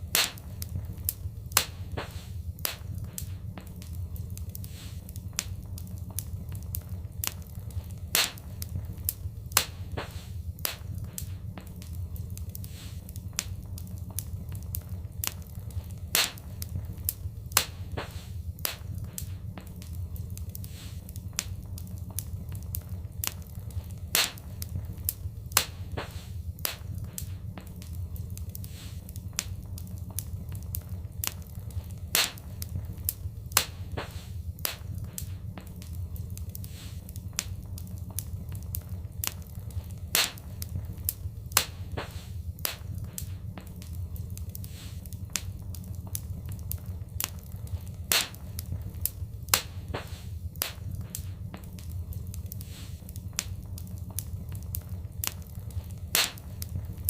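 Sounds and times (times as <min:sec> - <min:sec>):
fire popping: 0:00.0 - 0:57.0
fireplace fire crackling: 0:00.0 - 0:57.0
low rumble: 0:00.0 - 0:57.0.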